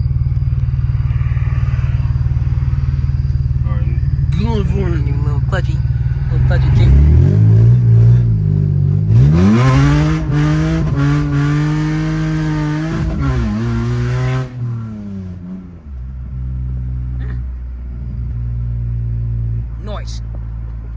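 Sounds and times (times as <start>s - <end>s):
car engine accelerating hard: 0.0s - 20.9s.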